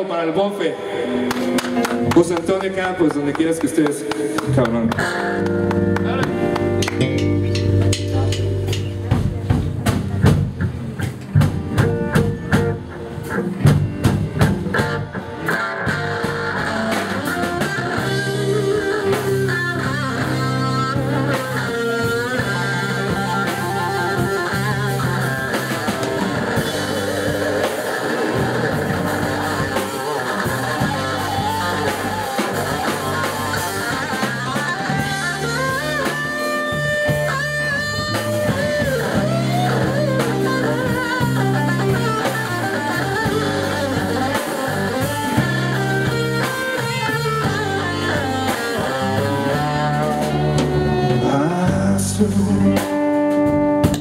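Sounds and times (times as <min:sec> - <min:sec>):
electric guitar lead: 0:00.0 - 0:54.0
bass guitar: 0:00.6 - 0:54.0
drum hits and fills: 0:01.2 - 0:52.0, 0:52.8 - 0:54.0.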